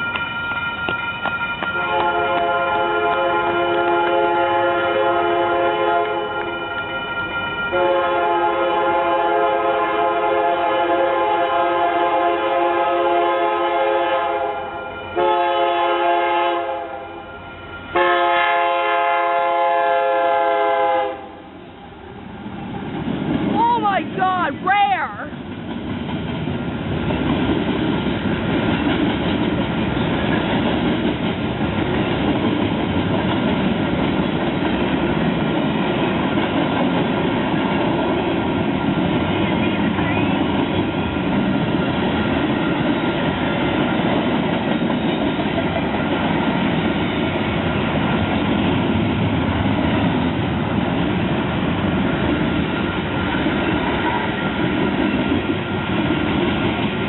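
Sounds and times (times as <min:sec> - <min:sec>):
train rolling on rails: 0:00.0 - 0:57.0.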